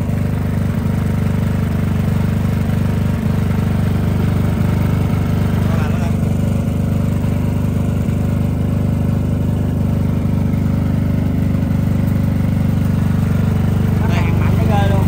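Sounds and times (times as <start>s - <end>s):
diesel generator humming: 0.0s - 15.0s.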